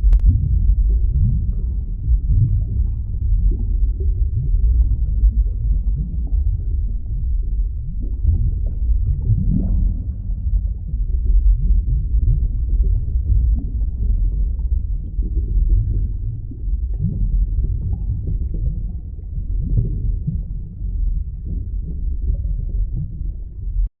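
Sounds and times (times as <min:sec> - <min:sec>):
deep underwater rumble: 0:00.0 - 0:23.9
faint bubbling blips: 0:00.0 - 0:23.9.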